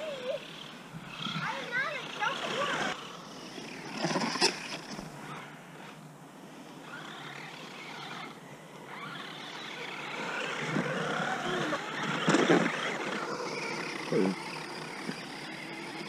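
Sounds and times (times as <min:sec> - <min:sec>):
electric motor whining: 0:00.0 - 0:06.0, 0:06.7 - 0:16.0.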